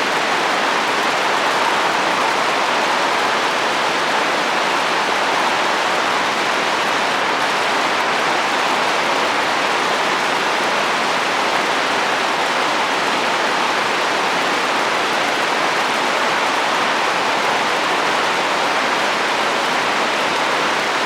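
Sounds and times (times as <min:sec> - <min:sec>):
rain falling on a roof: 0:00.0 - 0:21.0.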